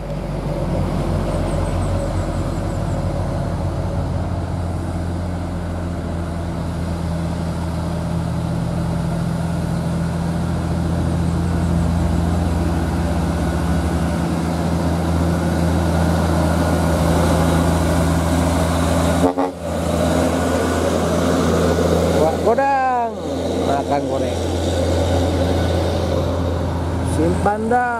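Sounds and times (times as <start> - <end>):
diesel truck engine droning: 0.0 - 27.9.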